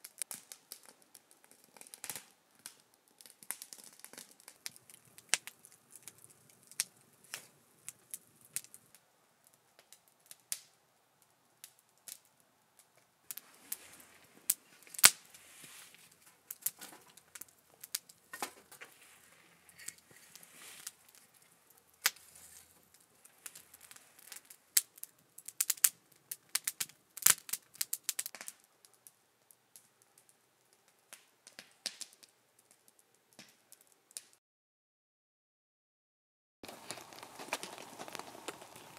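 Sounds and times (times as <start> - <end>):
campfire crackling and popping: 0.0 - 34.4, 36.6 - 38.9.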